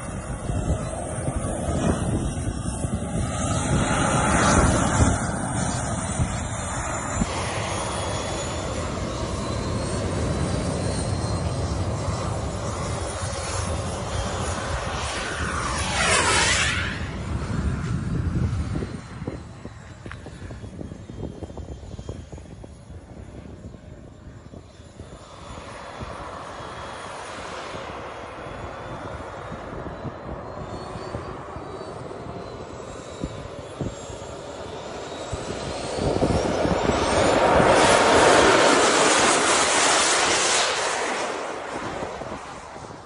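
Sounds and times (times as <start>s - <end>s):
model jet turbine whining: 0.0s - 43.0s.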